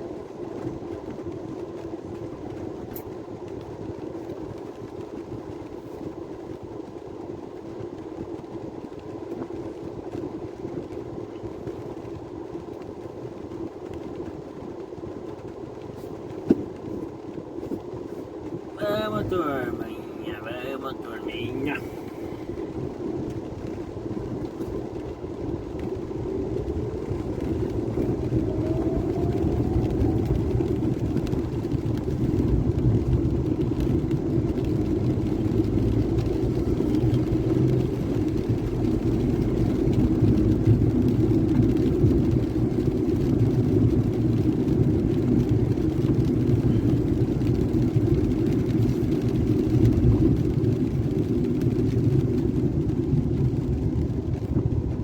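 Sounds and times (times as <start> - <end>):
vehicle rumble: 0.0 - 55.0.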